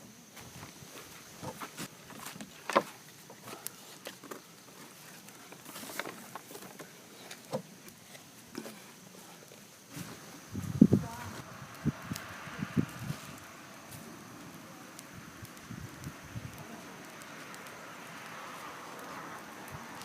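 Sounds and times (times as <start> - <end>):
faint hiss: 0.0 - 20.0
small wood fire crackling: 0.0 - 20.0.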